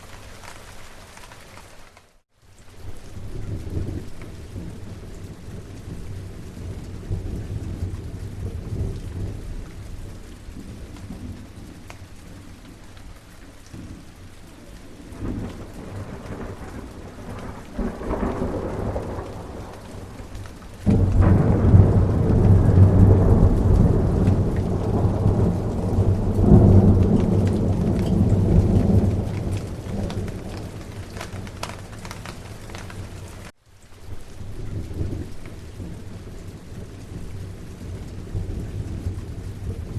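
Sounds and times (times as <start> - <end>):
steady rain: 0.0 - 39.9
rolling thunder: 3.1 - 12.8, 14.8 - 33.5, 34.5 - 39.9.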